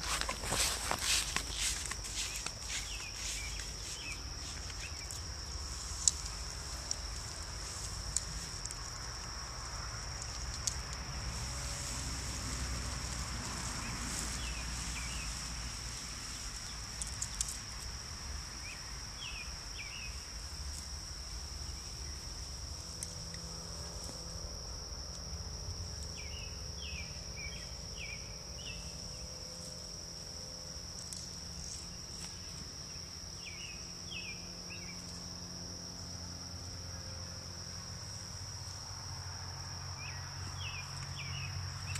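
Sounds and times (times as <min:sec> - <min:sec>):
cricket chorus: 0:00.0 - 0:41.9.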